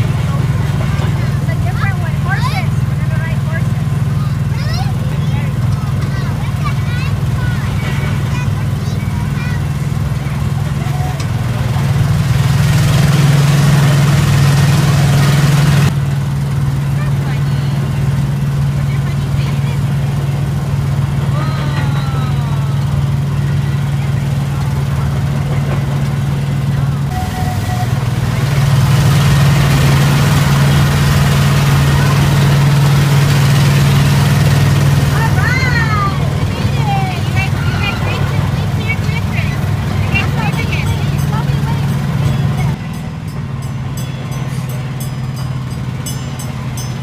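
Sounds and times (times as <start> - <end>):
rattle and hiss in tunnel: 0.0 - 43.3
small train engine humming: 0.0 - 47.0.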